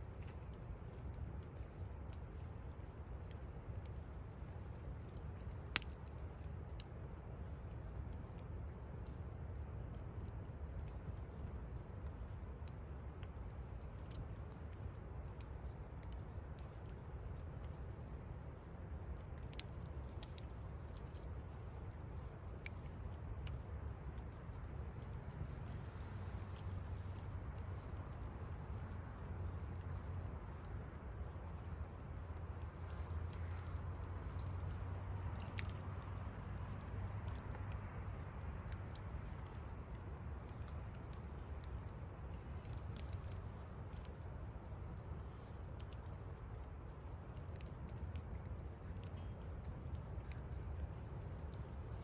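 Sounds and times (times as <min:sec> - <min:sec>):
low steady rumble: 0:00.0 - 0:52.0
wood fire crackling: 0:00.0 - 0:52.0.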